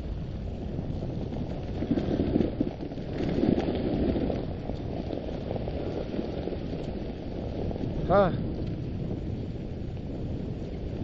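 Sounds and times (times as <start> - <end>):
sled runners scraping on snow: 0.0 - 11.0
dog paws on snow: 0.2 - 11.0.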